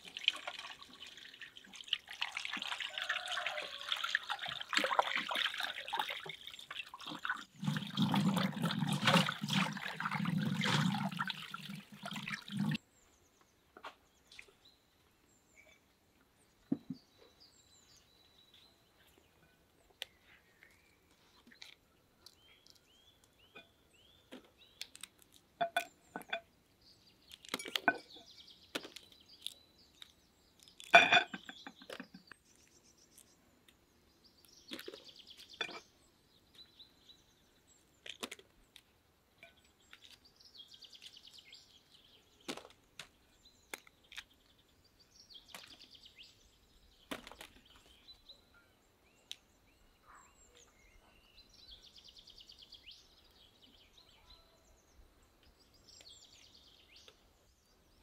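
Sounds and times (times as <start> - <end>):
faint birds chirping: 0.0 - 58.0.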